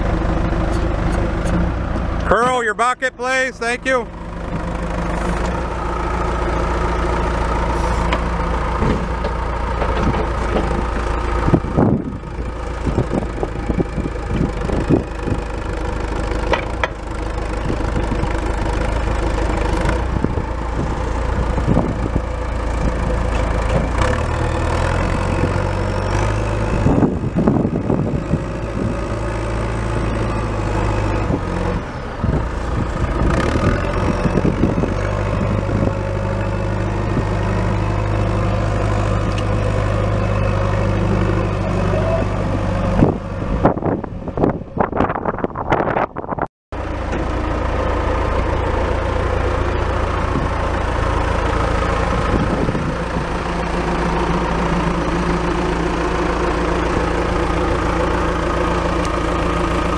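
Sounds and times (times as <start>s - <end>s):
diesel engine revving: 0.0s - 46.1s, 46.7s - 59.9s.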